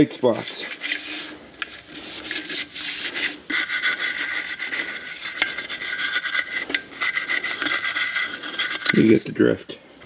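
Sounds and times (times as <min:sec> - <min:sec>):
brush scrubbing steel wheel: 0:00.0 - 0:09.4.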